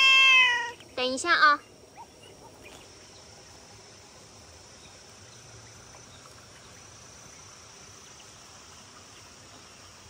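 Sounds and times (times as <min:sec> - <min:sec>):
insect chorus buzzing: 0:00.0 - 0:10.0.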